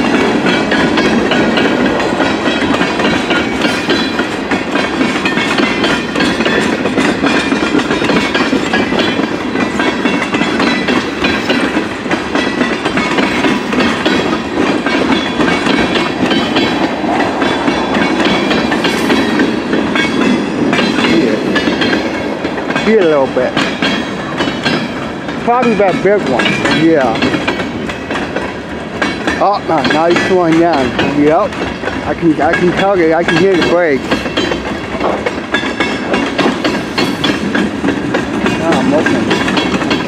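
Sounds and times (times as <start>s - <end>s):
train wheels rumbling on rail: 0.0s - 40.0s
wheels clicking over rail joints: 0.0s - 40.0s.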